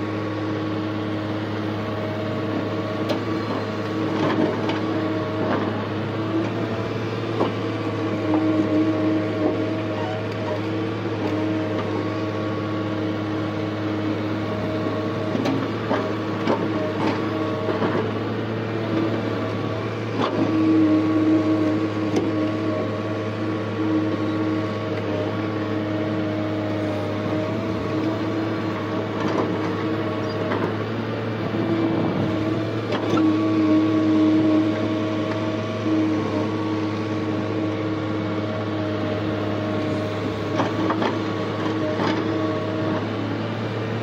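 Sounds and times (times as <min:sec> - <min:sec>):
excavator engine and hydraulics drone: 0:00.0 - 0:44.0.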